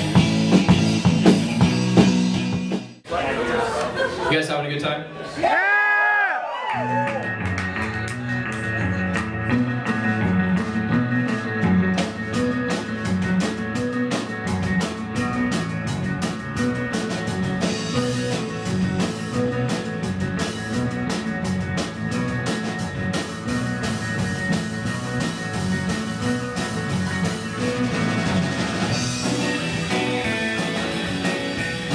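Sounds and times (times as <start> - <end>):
busy drum beat: 0.0 - 3.0, 8.7 - 31.9
rock band playing: 0.0 - 3.1, 6.5 - 31.9.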